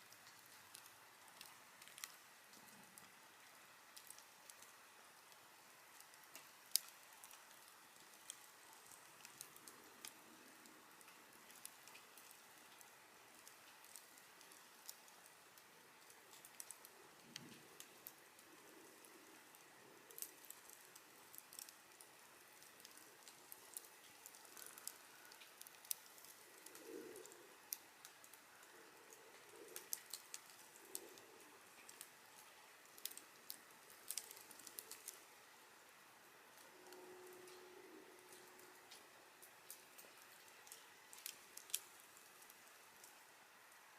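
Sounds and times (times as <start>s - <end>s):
campfire crackling: 0.0s - 43.9s
faint hiss of flames: 0.0s - 43.9s.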